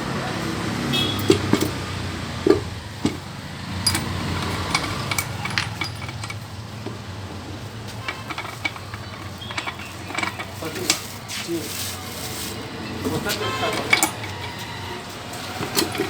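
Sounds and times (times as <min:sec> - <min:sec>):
metal tools clinking on engine parts: 0:00.8 - 0:16.0.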